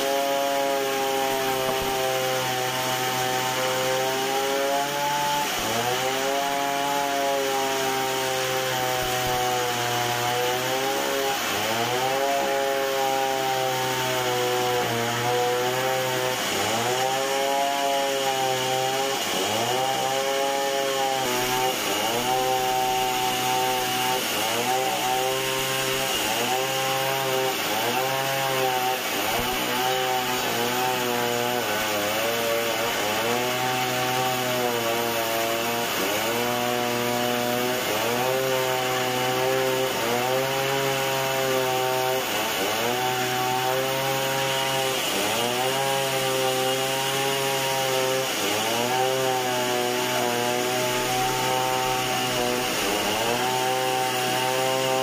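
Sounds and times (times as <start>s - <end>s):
band saw cutting timber: 0.0s - 55.0s.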